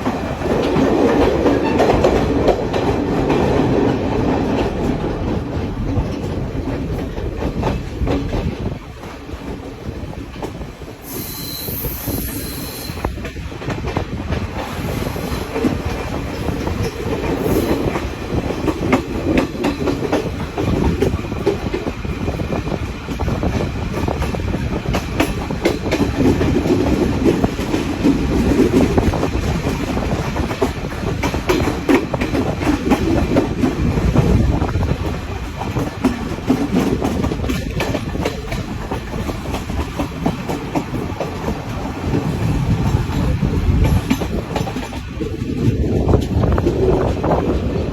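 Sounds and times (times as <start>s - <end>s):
wheels clicking over rail joints: 0.0s - 10.8s, 13.1s - 47.9s
train rumbling along track: 0.0s - 47.9s.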